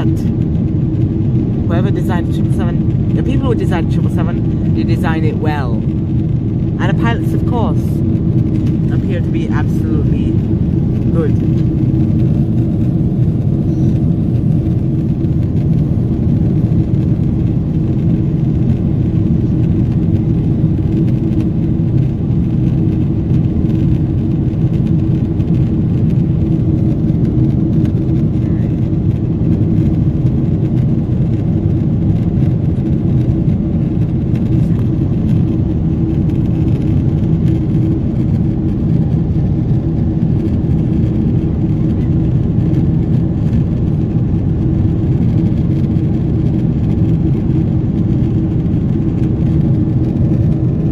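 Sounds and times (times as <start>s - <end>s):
aircraft cabin drone: 0.0s - 50.9s.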